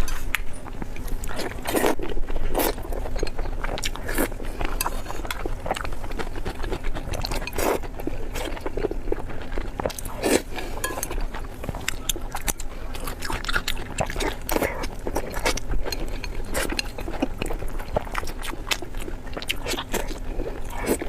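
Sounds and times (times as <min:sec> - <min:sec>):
close-miked chewing and biting: 0:00.0 - 0:21.0.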